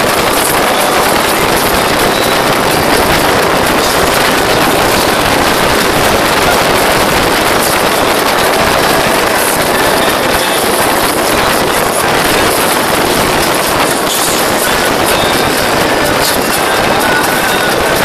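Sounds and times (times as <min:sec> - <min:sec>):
motorboat engine and water: 0:00.0 - 0:18.0
wind on microphone: 0:00.0 - 0:18.0.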